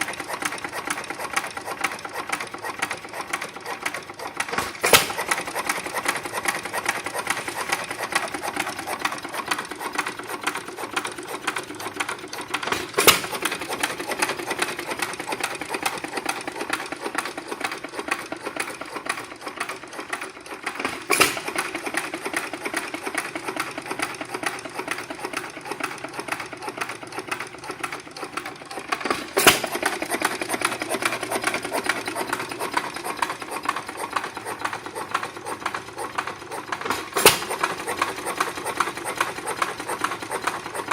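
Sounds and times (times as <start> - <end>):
gas engine clattering: 0.0 - 40.9.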